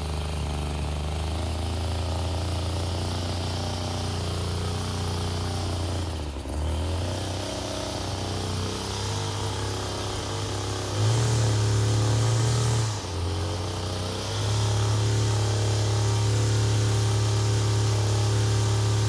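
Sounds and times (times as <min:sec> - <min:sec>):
small two-stroke engine running: 0:00.0 - 0:19.0.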